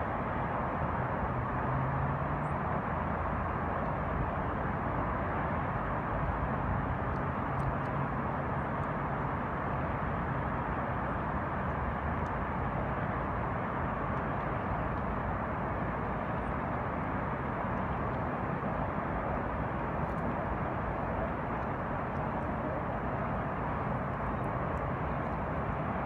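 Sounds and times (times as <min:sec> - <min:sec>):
highway traffic drone: 0:00.0 - 0:26.0.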